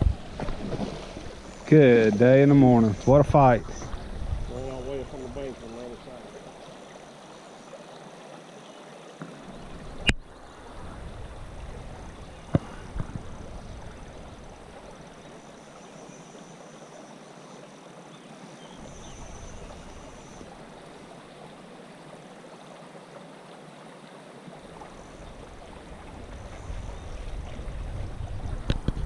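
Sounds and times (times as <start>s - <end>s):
stream water running: 0.0s - 29.0s.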